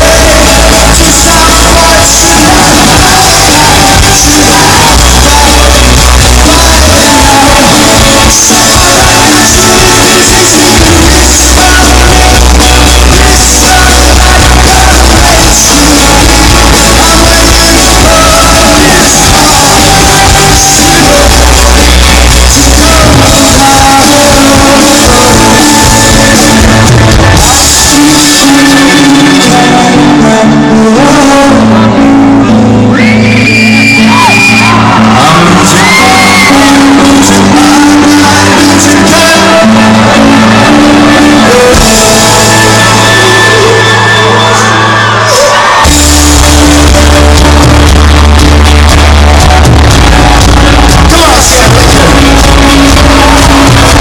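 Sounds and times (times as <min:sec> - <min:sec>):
lead vocals: 0:00.0 - 0:54.0
person singing: 0:00.0 - 0:54.0
rock band playing live: 0:00.0 - 0:54.0.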